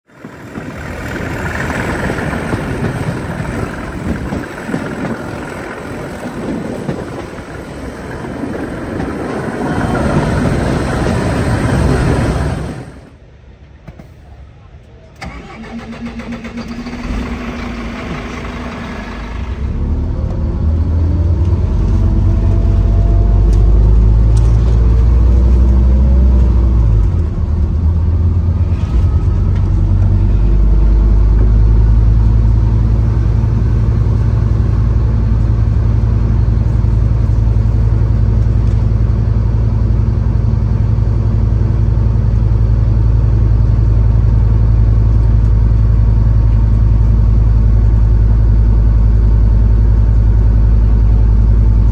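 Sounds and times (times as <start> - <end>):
bus diesel engine pulling away: 0.1 - 13.3, 15.2 - 51.9.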